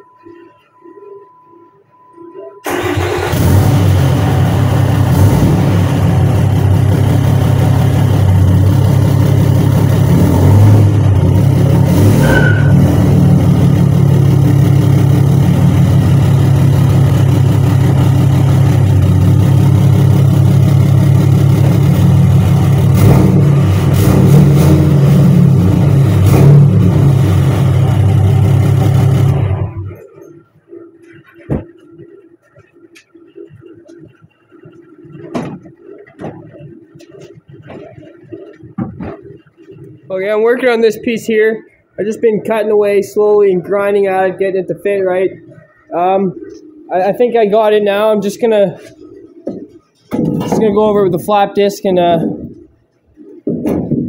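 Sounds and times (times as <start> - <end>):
diesel truck engine running: 2.6 - 51.4.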